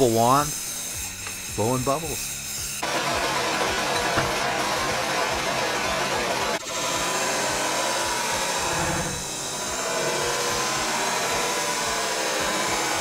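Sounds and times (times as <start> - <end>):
gas torch flame hissing: 0.0 - 13.0.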